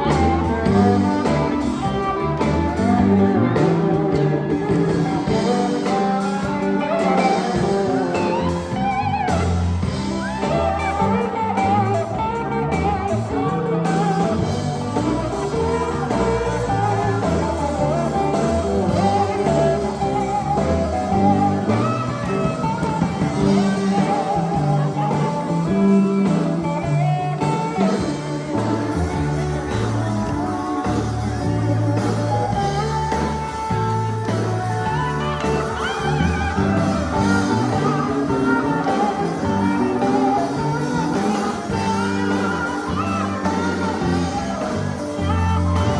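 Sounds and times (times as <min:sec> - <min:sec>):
gospel band playing: 0:00.0 - 0:45.9.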